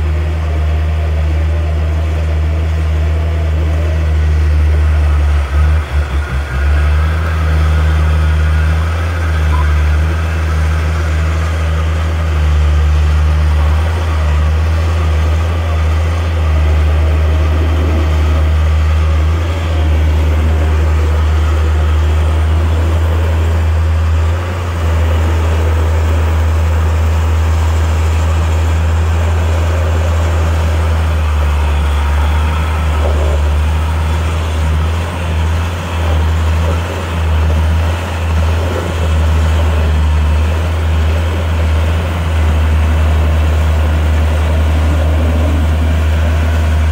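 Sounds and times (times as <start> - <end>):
vehicle engine rumbling: 0.0 - 46.9.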